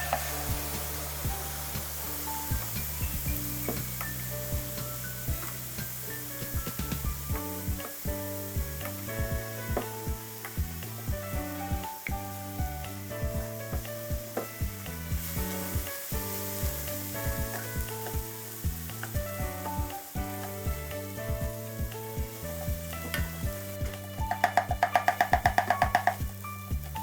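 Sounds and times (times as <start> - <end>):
background music: 0.0 - 27.0
batter sizzling on hot plate: 0.0 - 27.0.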